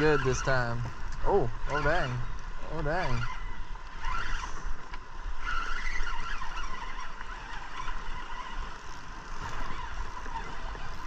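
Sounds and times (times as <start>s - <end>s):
fishing reel cranking: 0.0s - 11.0s
water noise: 0.0s - 11.0s.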